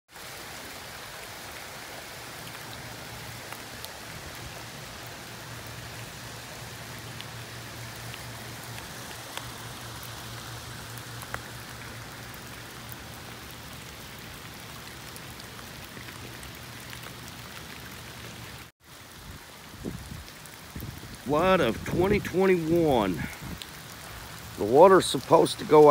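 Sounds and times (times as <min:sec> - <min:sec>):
steady rain falling: 0:00.1 - 0:25.9.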